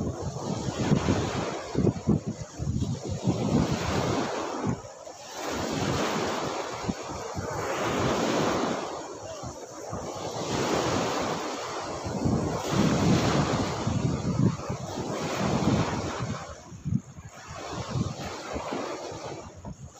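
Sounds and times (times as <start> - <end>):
small waves breaking in shallows: 0.0 - 19.9
wind buffeting microphone: 0.0 - 19.9.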